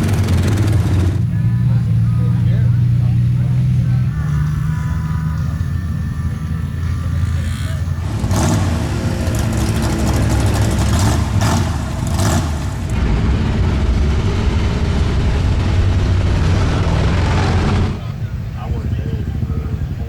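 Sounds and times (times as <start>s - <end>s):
off-road vehicle engine rumbling: 0.0s - 20.0s.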